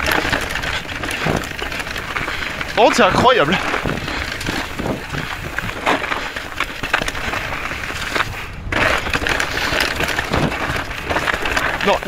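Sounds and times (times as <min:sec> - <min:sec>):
bike knocking and rattling: 0:00.0 - 0:12.0
wind rumble on microphone: 0:00.0 - 0:12.0.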